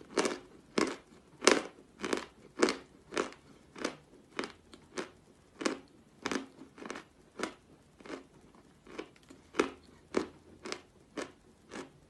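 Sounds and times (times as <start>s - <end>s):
chalk being chewed crunching: 0.0s - 12.0s.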